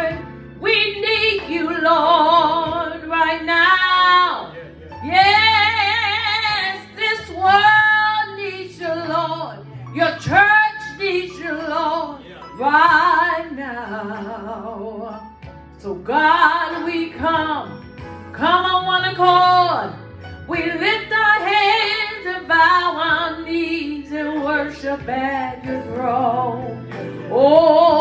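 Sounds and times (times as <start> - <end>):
woman singing: 0.0 - 28.0.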